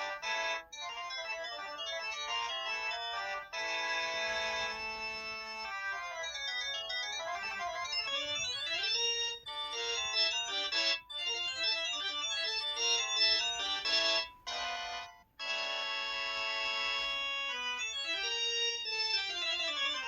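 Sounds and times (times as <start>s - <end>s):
phone ringtone melody: 0.0s - 20.0s.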